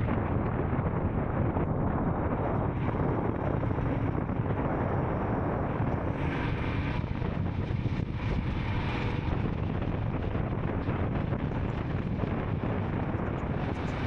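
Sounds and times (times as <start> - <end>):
motorcycle engine running: 0.0 - 14.0
wind on microphone: 0.0 - 14.0.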